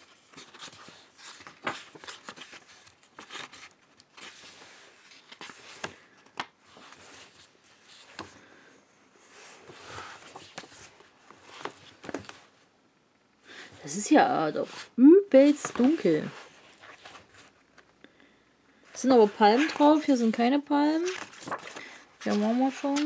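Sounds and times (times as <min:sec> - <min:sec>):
book pages rustling: 0:00.0 - 0:12.6, 0:14.6 - 0:18.0, 0:18.9 - 0:23.0.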